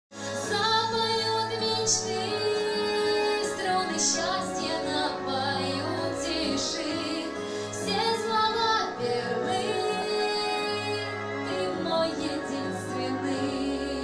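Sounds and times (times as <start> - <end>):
instrumental backing music: 0.1 - 14.0
woman singing: 0.2 - 14.0.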